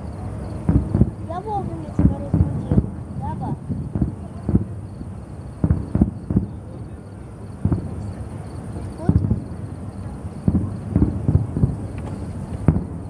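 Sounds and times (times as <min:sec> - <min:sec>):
distant firework booms: 0:00.5 - 0:13.0.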